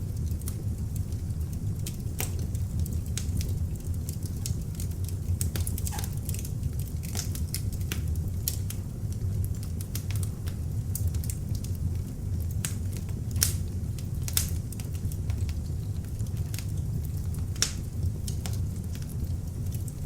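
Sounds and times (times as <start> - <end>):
log fire crackling and popping: 0.0 - 20.0.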